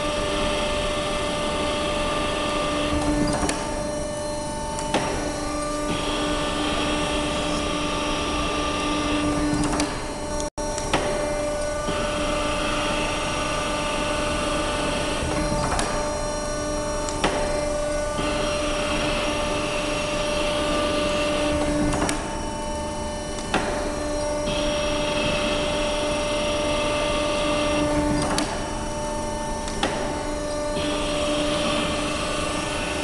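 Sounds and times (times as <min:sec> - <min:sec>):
steady motor hum: 0:00.0 - 0:33.0.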